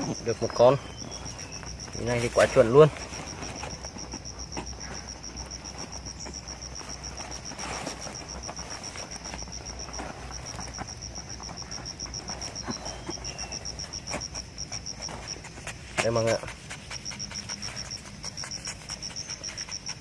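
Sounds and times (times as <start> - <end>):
faint rustling: 0.0 - 20.0
insect calling in rapid pulses: 0.0 - 20.0.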